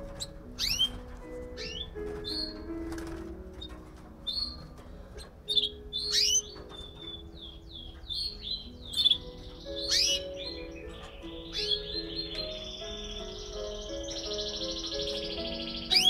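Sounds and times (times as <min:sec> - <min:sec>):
background music of held chords: 0:00.0 - 0:16.0
canaries chirping: 0:00.0 - 0:16.0.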